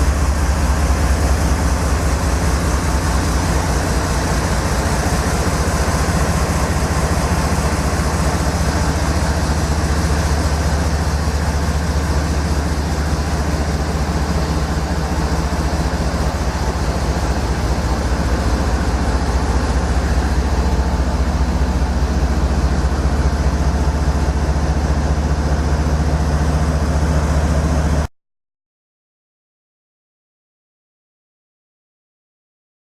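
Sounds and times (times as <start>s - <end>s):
locomotive engine idling: 0.0s - 28.1s.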